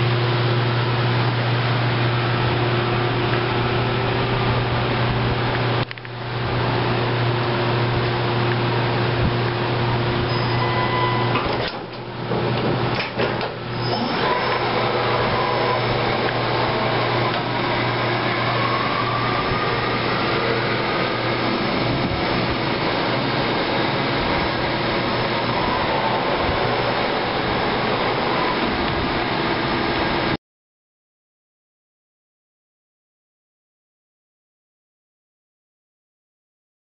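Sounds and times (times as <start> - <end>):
machine whirring hum: 0.0 - 30.4.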